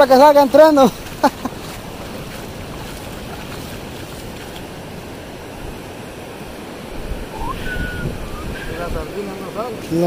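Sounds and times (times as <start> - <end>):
sea surf rushing onto beach: 0.0 - 10.0.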